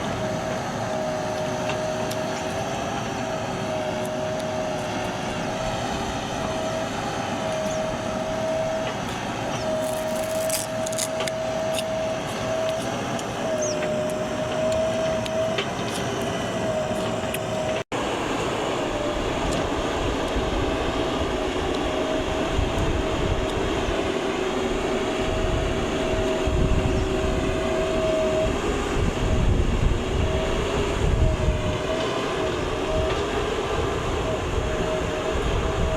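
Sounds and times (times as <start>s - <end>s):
diesel engine running: 0.0s - 35.9s
steady whine: 0.0s - 35.9s.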